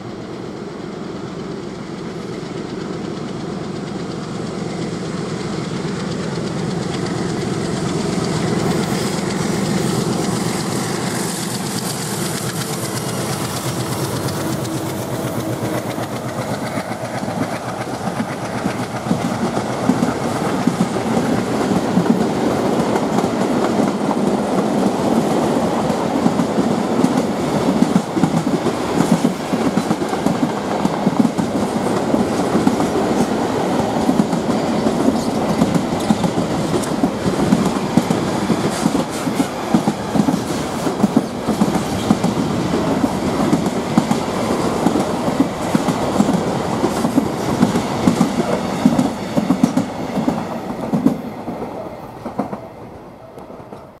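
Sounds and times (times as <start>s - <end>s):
wheels clickety-clack: 1.5s - 52.6s.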